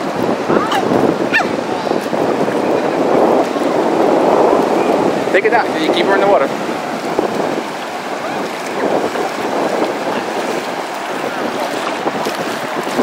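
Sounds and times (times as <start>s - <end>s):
ocean surf on a beach: 0.0s - 13.0s.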